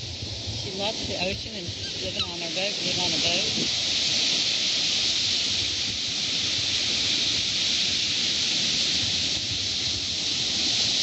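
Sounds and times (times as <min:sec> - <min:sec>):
small waves washing on shore: 0:00.0 - 0:11.0.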